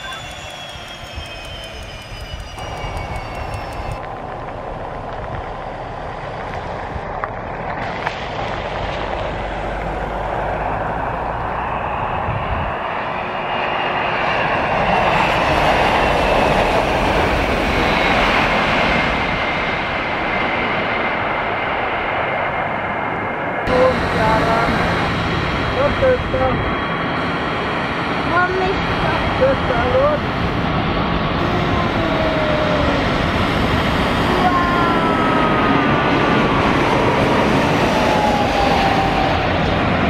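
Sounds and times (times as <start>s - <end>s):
jet engine roar and turbine whine: 0.0s - 40.0s
turboprop engine droning: 0.0s - 40.0s.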